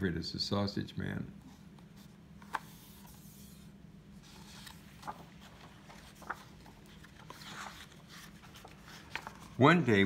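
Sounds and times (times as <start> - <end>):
book pages flipping: 1.5 - 9.6.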